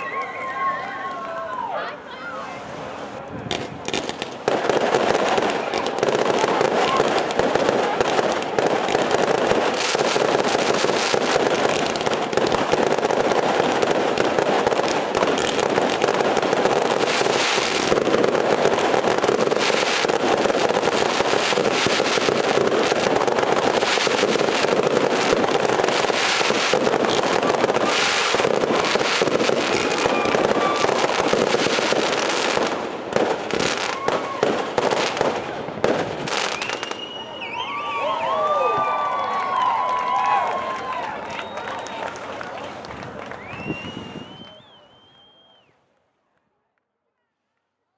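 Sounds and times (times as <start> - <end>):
fireworks bursting and crackling: 2.4 - 45.6.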